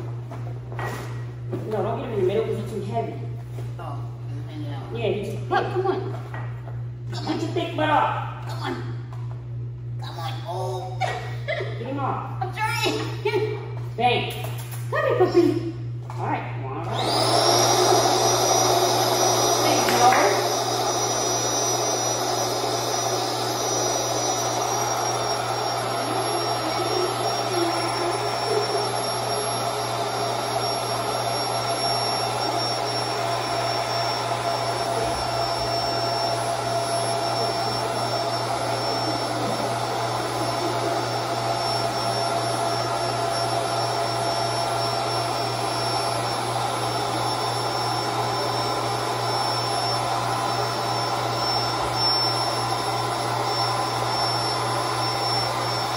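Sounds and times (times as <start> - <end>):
electric air pump humming: 0.0 - 55.9.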